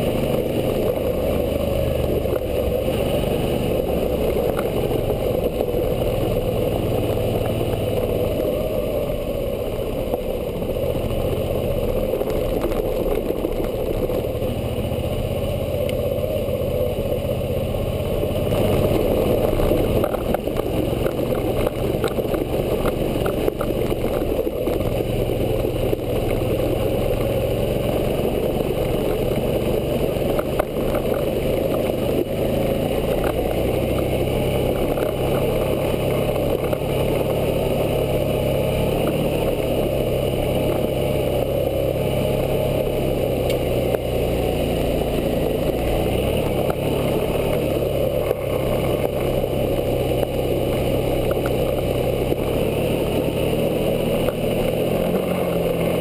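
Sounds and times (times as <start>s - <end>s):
motorcycle engine running: 0.0s - 56.0s
steady rushing noise: 0.0s - 56.0s.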